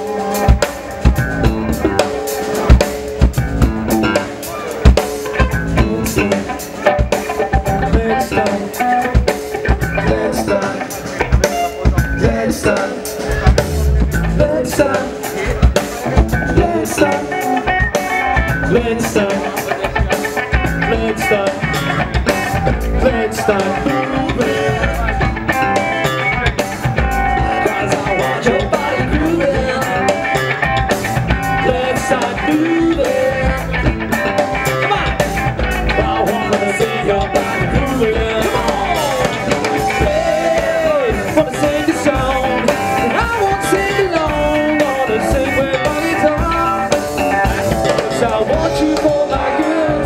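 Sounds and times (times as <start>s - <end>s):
drum kit: 0.0s - 50.0s
electric bass guitar: 0.0s - 50.0s
person singing: 3.9s - 26.7s, 27.4s - 30.6s, 31.4s - 50.0s.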